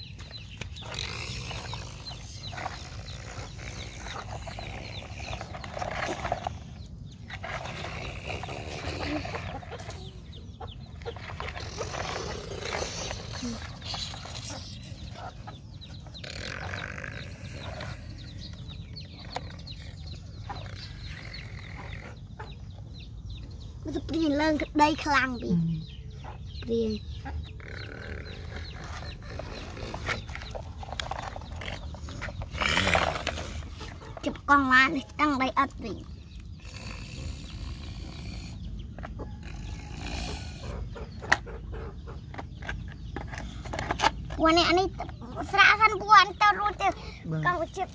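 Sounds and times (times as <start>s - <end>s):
chickens clucking and peeping: 8.5s - 47.9s.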